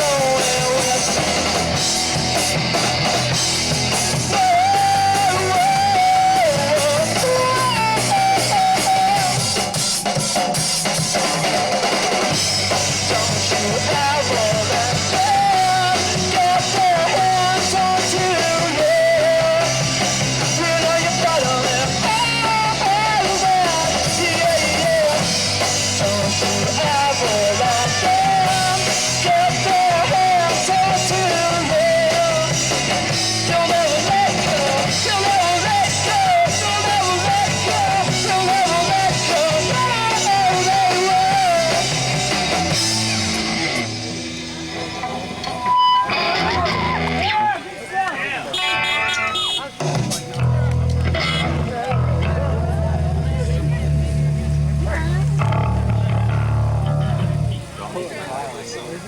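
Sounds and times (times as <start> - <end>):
drum kit: 0.0 - 47.6, 48.6 - 57.8
electric guitars: 0.0 - 59.0.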